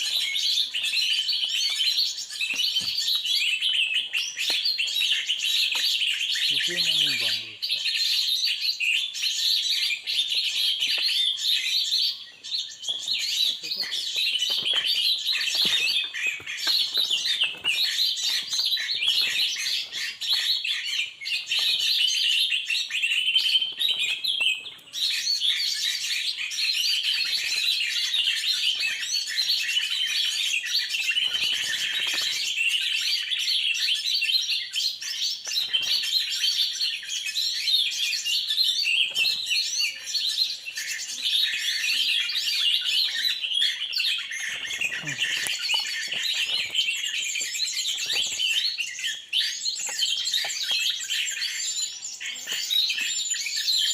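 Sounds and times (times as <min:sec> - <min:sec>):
many small birds chirping: 0:00.0 - 0:53.9.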